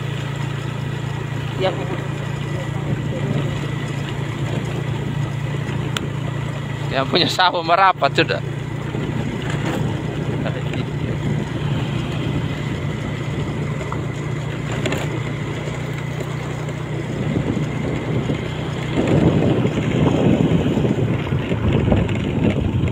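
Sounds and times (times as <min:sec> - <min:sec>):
low engine hum: 0:00.0 - 0:22.9
wind buffeting the microphone: 0:01.4 - 0:07.3, 0:08.0 - 0:22.9.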